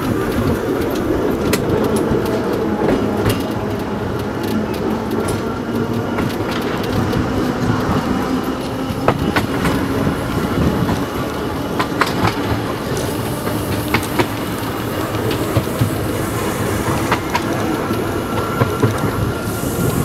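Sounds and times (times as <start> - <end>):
tram rumbling and rattling: 0.0 - 20.0
wheels clicking on track: 0.0 - 20.0.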